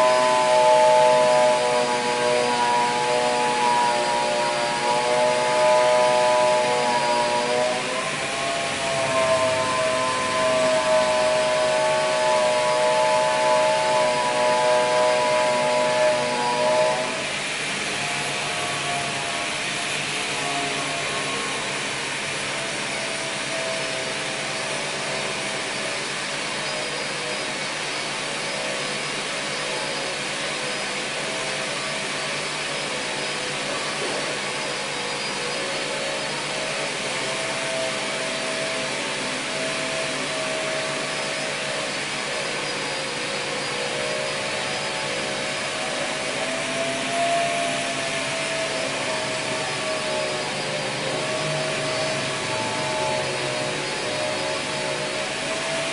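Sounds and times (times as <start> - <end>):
electric motor whining: 0.0 - 55.9.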